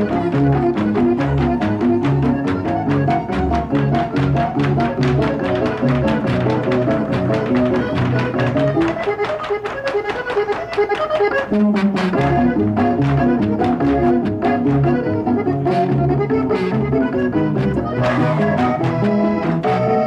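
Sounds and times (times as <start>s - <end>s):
accordion dance music: 0.0s - 20.0s.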